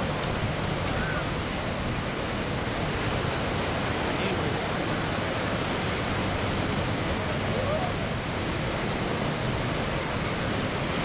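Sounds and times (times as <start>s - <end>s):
surf rushing: 0.0s - 11.0s
wind: 0.0s - 11.0s.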